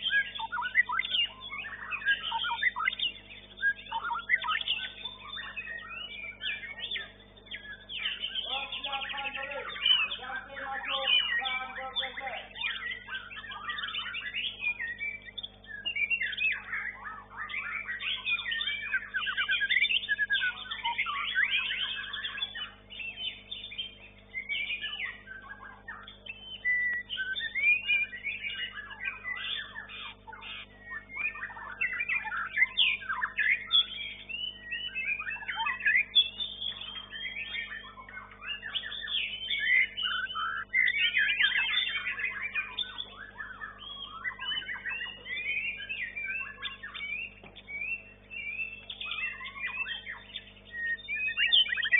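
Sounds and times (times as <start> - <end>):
faint steady hum: 0.0 - 51.9
songbird singing: 0.0 - 51.9.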